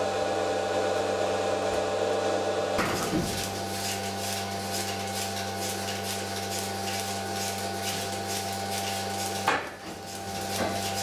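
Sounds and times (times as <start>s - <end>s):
milking machine vacuum hum: 0.0s - 11.0s.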